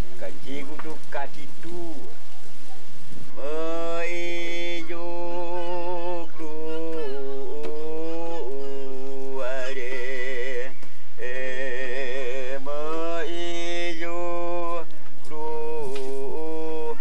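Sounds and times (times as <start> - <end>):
person chanting long notes: 3.4 - 17.0.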